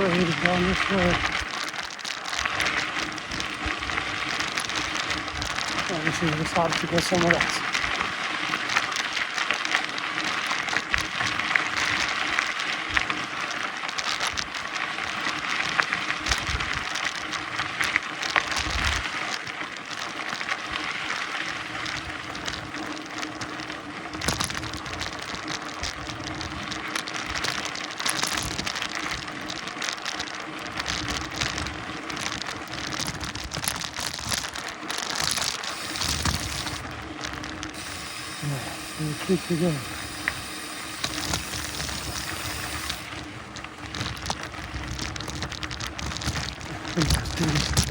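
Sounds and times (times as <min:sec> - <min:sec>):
bike knocking and rattling: 0:00.0 - 0:47.9
bike tyres hissing on dirt: 0:00.0 - 0:47.9.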